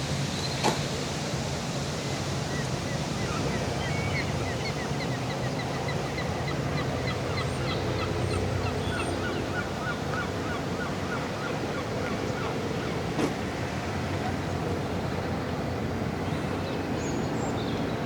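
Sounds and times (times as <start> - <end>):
distant city traffic hum: 0.0 - 18.0.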